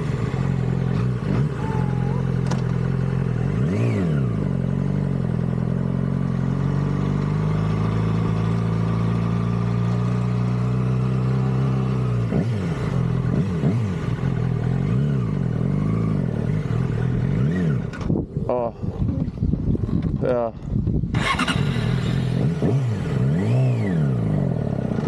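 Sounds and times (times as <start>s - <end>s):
motorcycle engine revving: 0.0s - 20.2s, 20.9s - 25.0s.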